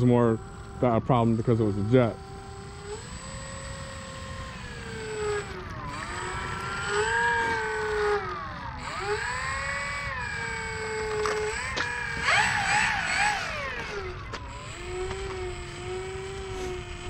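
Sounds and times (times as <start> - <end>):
model plane motor whining: 0.0 - 17.0.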